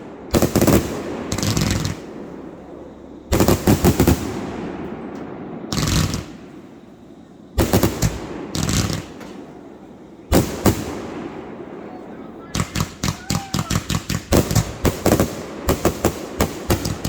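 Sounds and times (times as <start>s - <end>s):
fireworks crackling bursts: 0.0s - 17.0s.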